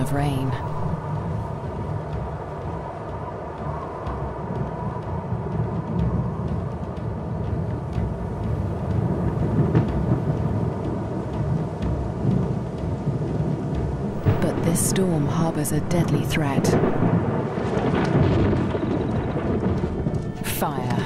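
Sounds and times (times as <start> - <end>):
gusty storm wind: 0.0 - 21.0
thunder rumbling: 0.0 - 21.0.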